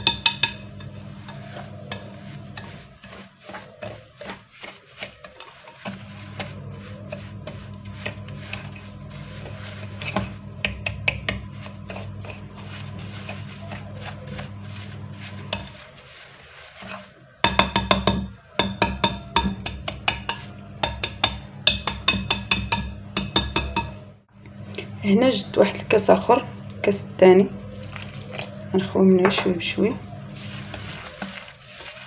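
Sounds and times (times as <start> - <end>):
utensil scraping glass bowl: 0.0 - 24.0, 27.6 - 28.7, 29.3 - 32.0.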